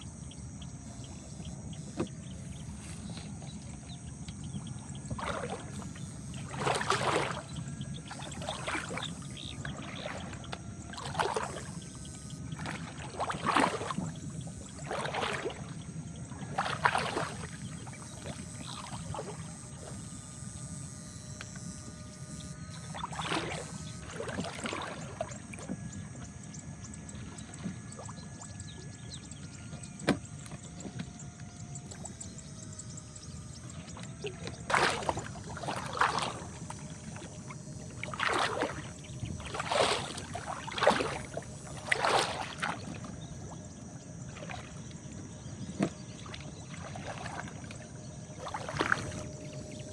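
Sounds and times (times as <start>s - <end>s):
faint steady hum: 0.0s - 49.9s
water splashing and sloshing: 0.0s - 49.9s.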